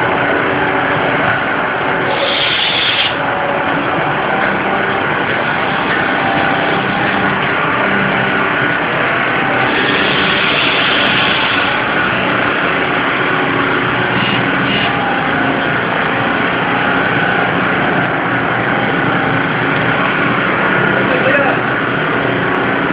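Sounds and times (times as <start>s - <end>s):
loud machinery hum and whir: 0.0s - 22.9s.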